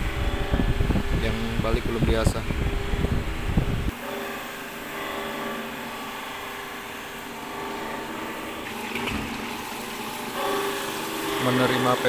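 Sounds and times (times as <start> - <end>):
grinding machine humming: 0.0 - 12.0.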